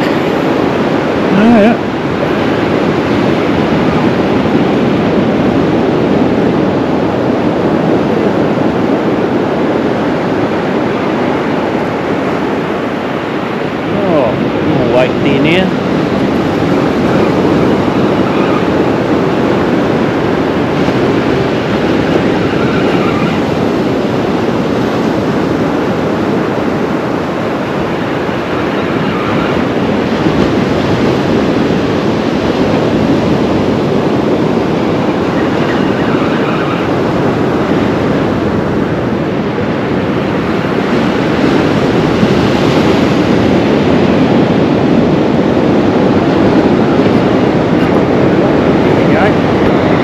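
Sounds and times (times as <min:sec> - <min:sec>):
surf breaking on a beach: 0:00.0 - 0:50.0.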